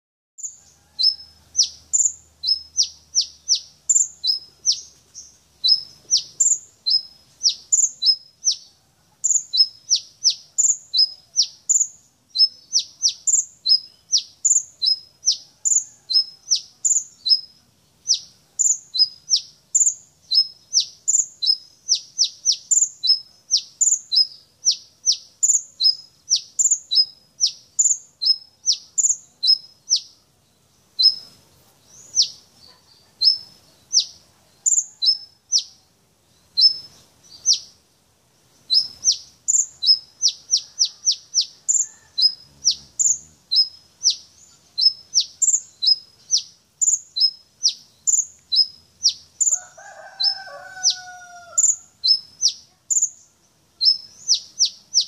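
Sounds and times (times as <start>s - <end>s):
bird singing high chirps: 0.4s - 37.8s, 38.5s - 55.0s.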